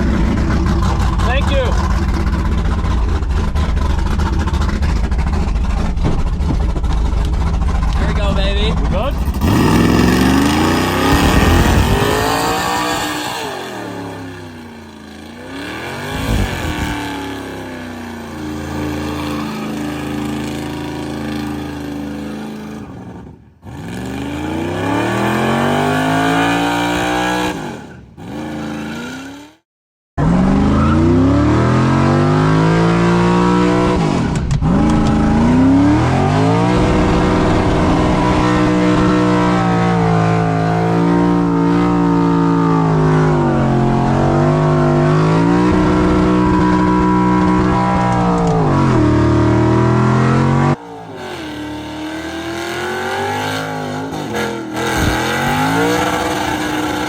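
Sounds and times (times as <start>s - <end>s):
truck engine revving hard: 0.0s - 29.6s, 30.2s - 57.0s
tire squeal: 9.0s - 29.6s, 30.2s - 32.4s, 33.7s - 57.0s.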